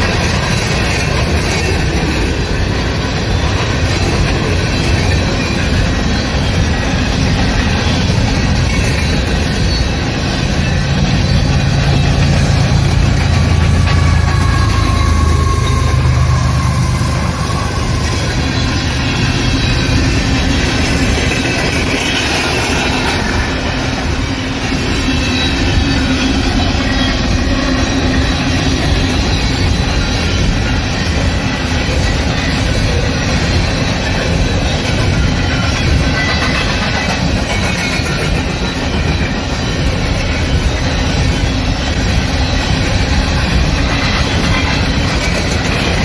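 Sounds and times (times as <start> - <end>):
diesel locomotive engine hum: 0.0 - 46.0
rail cars wheels clattering: 0.0 - 46.0.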